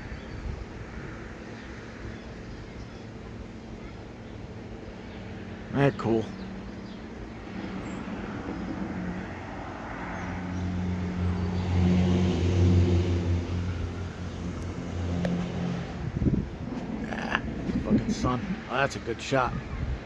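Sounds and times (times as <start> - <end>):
passing engine hum: 0.0 - 20.0.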